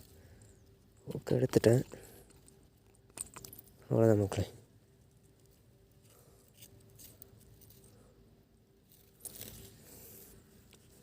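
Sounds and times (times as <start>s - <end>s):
soft handling rustle: 0.0s - 8.2s, 8.8s - 11.0s.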